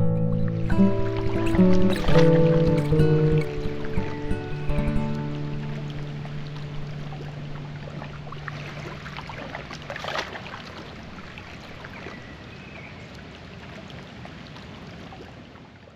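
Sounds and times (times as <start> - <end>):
water flowing and splashing: 0.0 - 15.9.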